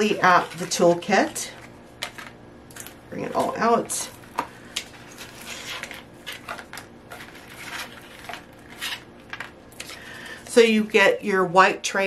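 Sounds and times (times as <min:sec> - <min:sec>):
packaging rustling: 0:00.0 - 0:10.1.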